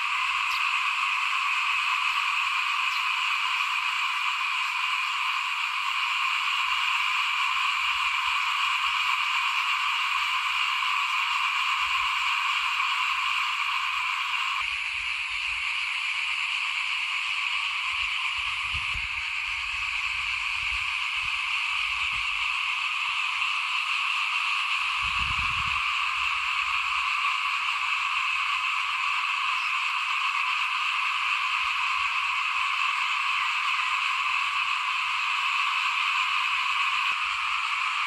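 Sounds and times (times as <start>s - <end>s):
chorus of frogs calling: 0.0s - 38.0s.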